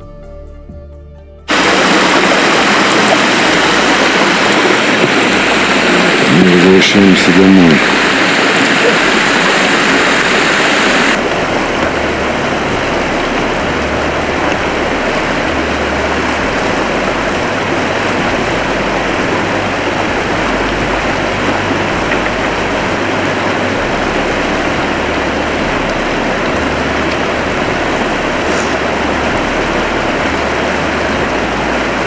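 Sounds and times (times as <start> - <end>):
river rushing over rocks: 1.5 - 32.0.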